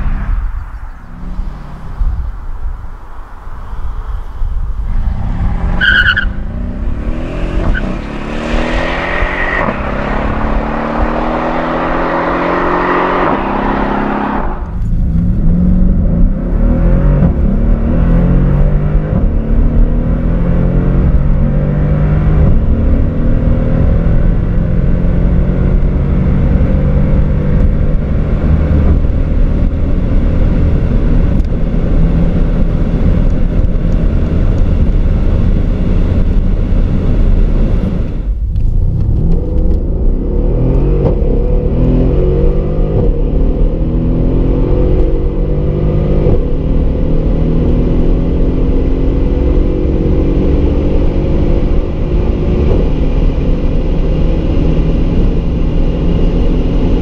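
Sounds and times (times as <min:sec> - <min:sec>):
car engine accelerating from inside: 0:04.8 - 0:57.0.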